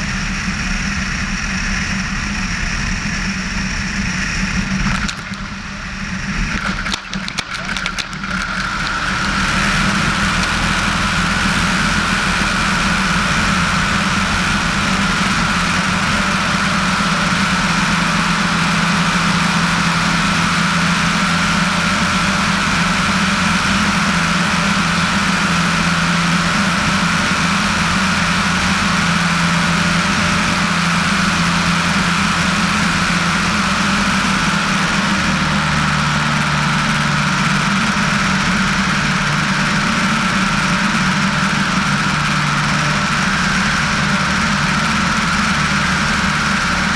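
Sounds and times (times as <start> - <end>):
small plane engine and propeller: 0.0 - 46.9.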